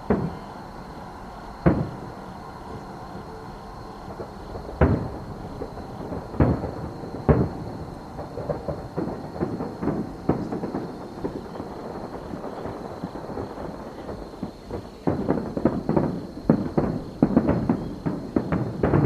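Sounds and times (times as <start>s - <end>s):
distant fireworks booming: 0.0s - 19.0s
fireworks popping and crackling: 0.0s - 19.0s.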